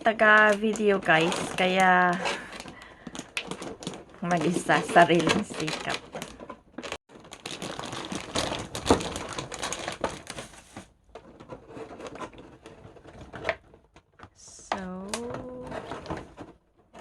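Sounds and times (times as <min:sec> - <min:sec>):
packaging rustling: 0:00.2 - 0:14.2.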